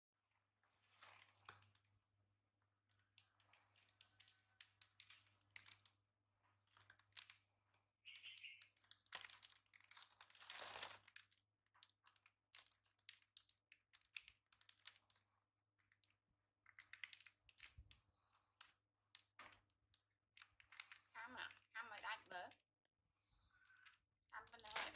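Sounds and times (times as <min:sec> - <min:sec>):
plastic snack packet crinkling: 0:00.9 - 0:02.0, 0:02.9 - 0:06.0, 0:06.7 - 0:07.5, 0:08.1 - 0:22.6, 0:23.6 - 0:24.9.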